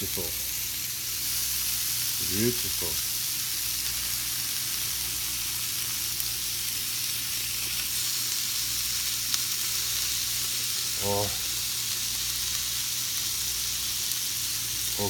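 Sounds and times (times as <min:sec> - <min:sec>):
bacon sizzling on a grill: 0:00.0 - 0:15.0.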